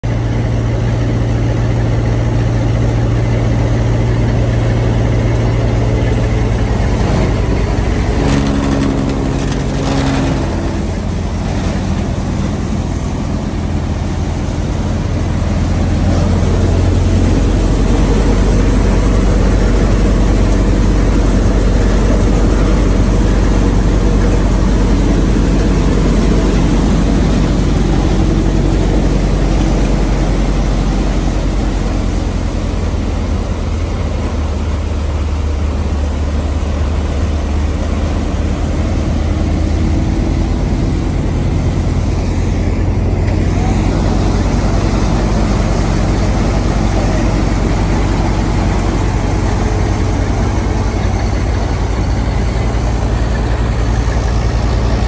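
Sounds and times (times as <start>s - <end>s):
thresher machine droning: 0.1s - 55.0s.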